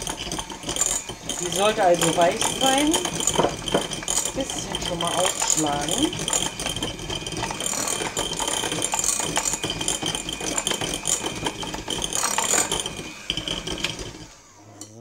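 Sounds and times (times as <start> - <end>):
beaters rattling in glass bowl: 0.0 - 14.4
electric hand mixer running: 0.0 - 15.0.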